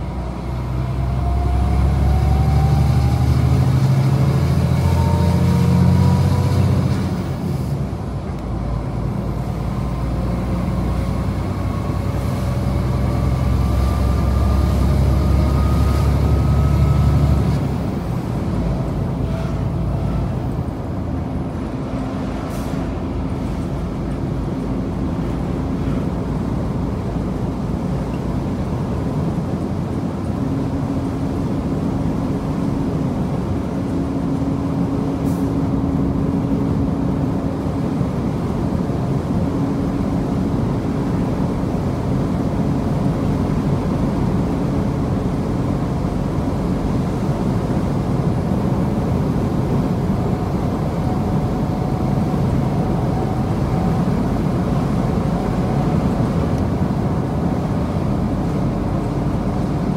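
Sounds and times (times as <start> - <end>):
road and wind noise: 0.0 - 59.9
truck diesel engine running: 0.0 - 59.9.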